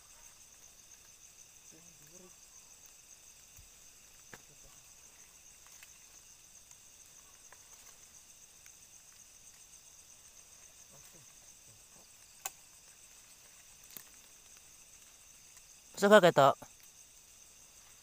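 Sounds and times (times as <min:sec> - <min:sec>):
crickets and insects chirping: 0:00.0 - 0:18.0.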